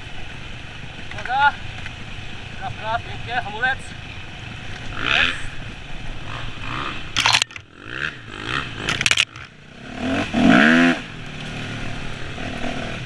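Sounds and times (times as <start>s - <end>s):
dirt bike engine revving: 1.2s - 13.0s.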